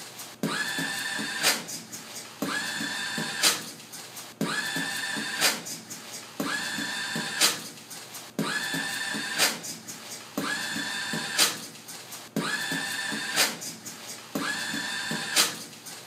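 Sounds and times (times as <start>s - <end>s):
beatboxed snare hits: 0.0s - 16.0s
beatboxed kick thumps: 0.3s - 16.0s.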